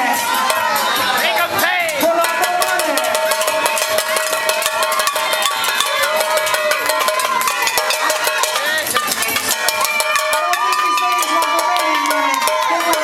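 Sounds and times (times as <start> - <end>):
fast dance music: 0.0 - 13.0
hand-clapping percussion: 1.7 - 13.0.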